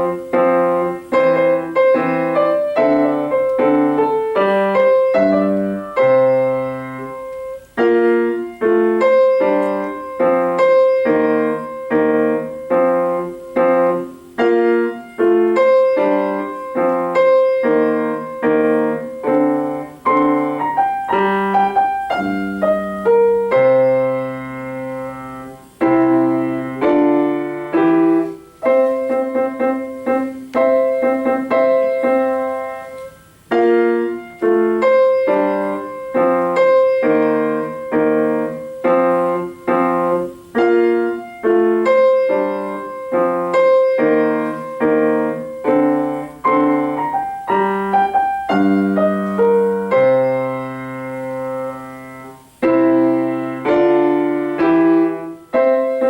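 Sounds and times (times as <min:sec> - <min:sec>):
slow solo piano: 0:00.0 - 0:56.0.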